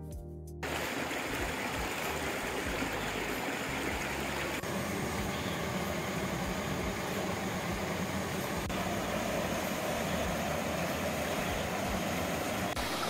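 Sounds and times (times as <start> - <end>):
mountain stream rushing over rocks: 0.6 - 13.0.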